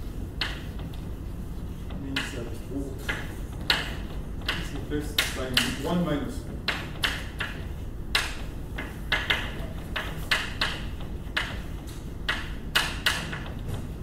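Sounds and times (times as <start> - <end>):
low room hum: 0.0 - 14.0
chalk tapping and scratching: 0.4 - 6.0, 6.6 - 13.6.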